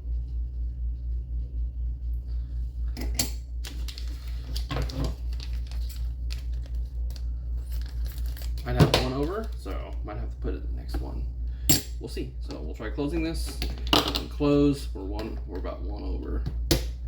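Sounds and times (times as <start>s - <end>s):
low throbbing hum: 0.0s - 17.0s.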